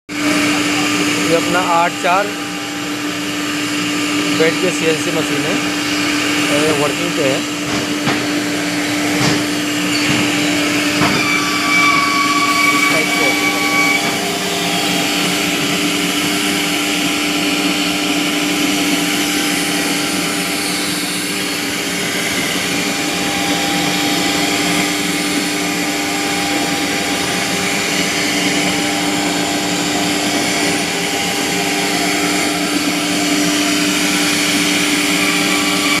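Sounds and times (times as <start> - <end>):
cnc router spindle humming: 0.1 - 36.0.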